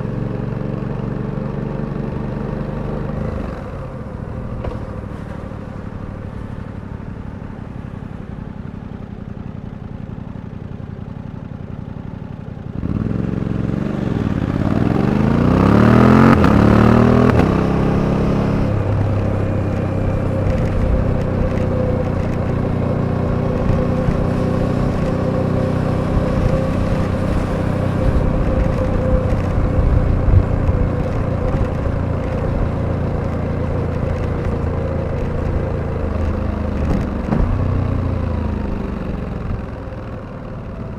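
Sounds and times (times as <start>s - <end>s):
motorcycle engine revving: 0.0s - 10.0s, 10.6s - 40.9s.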